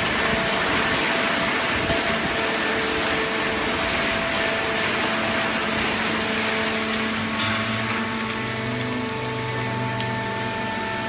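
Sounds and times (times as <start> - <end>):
baler machinery hum and whine: 0.0 - 11.0
deeper machine hum: 0.0 - 11.0.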